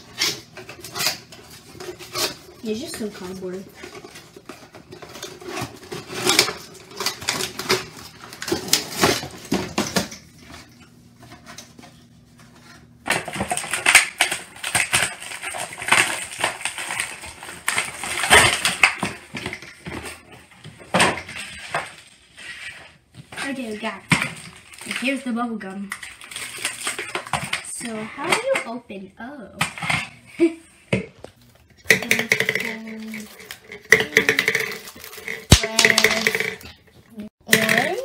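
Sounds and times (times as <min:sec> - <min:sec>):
cardboard and plastic rustling: 0:00.0 - 0:28.7, 0:29.8 - 0:38.0.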